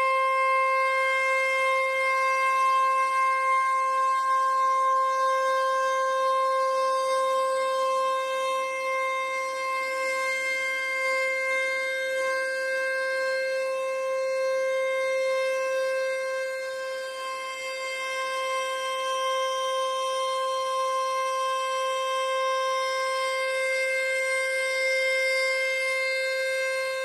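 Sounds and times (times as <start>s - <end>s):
warning siren steady tone: 0.0s - 27.0s.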